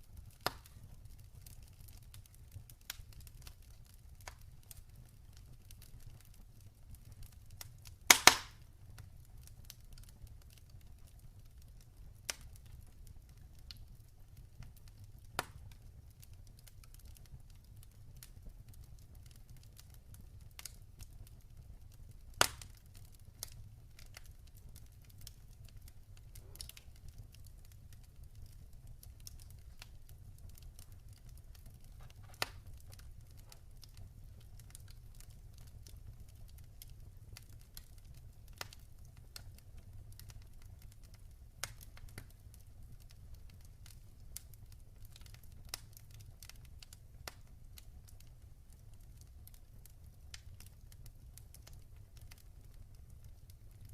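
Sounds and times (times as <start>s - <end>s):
fire burning with low rumble: 0.0s - 53.9s
fire crackles and pops: 0.0s - 53.9s.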